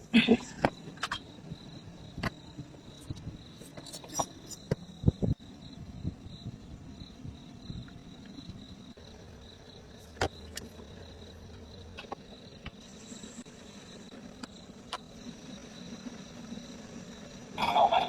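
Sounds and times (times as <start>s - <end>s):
higher insect trill: 0.0s - 18.0s
insects trilling: 0.0s - 18.0s.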